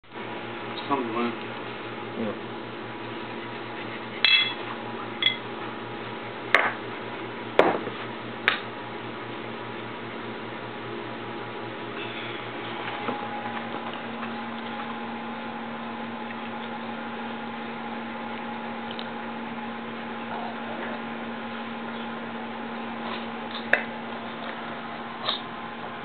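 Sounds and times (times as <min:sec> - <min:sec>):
room hum and hiss: 0:00.1 - 0:26.0.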